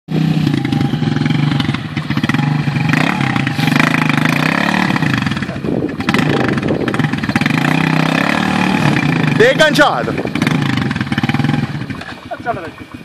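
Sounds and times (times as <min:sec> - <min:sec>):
quad bike engine revving: 0:00.1 - 0:13.0.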